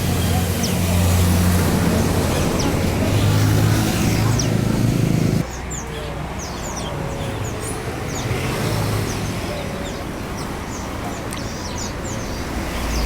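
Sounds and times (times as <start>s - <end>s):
low traffic rumble: 0.0s - 13.0s
small birds chirping: 0.0s - 13.0s.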